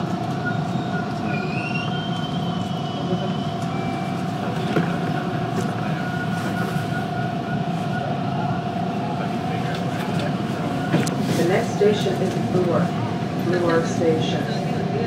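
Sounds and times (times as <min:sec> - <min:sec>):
subway train wheels rumbling: 0:00.0 - 0:15.0
train whine: 0:00.0 - 0:15.0.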